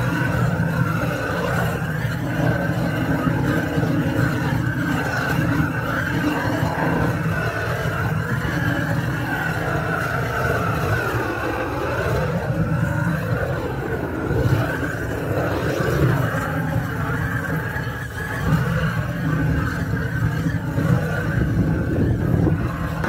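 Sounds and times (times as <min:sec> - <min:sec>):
blowtorch flame roaring: 0:00.0 - 0:23.0.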